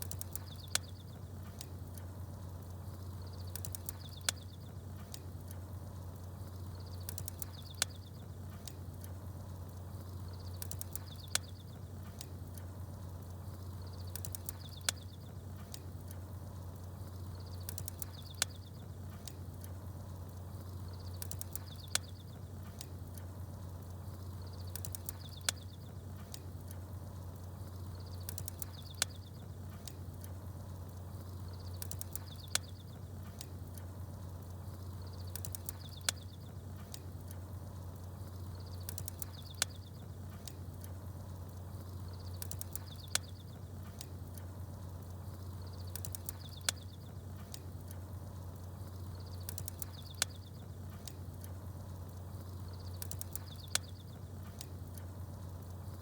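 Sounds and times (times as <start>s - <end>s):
bonfire crackling: 0.0s - 56.0s
small birds chirping: 0.0s - 56.0s
steady low hum: 0.0s - 56.0s.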